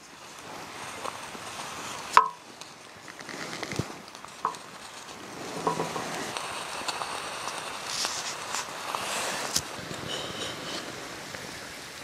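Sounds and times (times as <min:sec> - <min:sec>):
water sizzling in a cup: 0:00.1 - 0:12.0.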